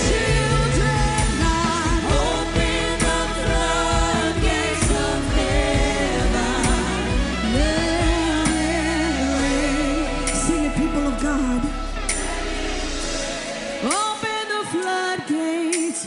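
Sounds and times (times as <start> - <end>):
band with bass and drums: 0.0 - 14.2
voices singing wordless lines: 0.0 - 16.0.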